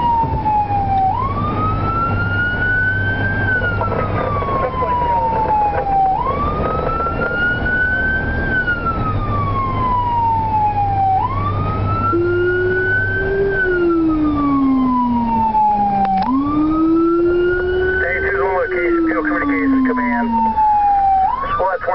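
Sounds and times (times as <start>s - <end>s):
deep second siren tone: 0.0s - 21.9s
fire siren wailing: 0.0s - 21.9s
low engine hum: 0.0s - 21.9s.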